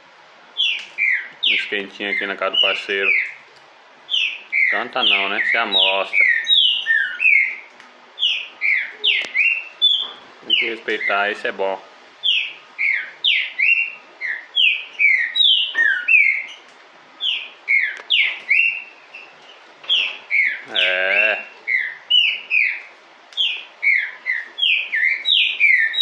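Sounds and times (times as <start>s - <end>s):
bird chirping: 0.6s - 3.4s, 4.1s - 26.0s.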